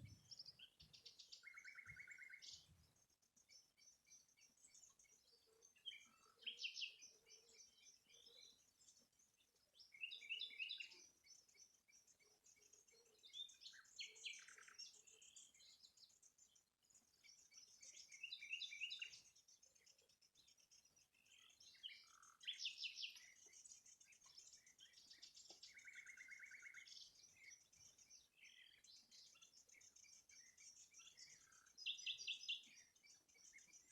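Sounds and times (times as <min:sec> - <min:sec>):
bird trill: 0:00.0 - 0:33.9
songbirds chirping and singing: 0:00.0 - 0:33.9.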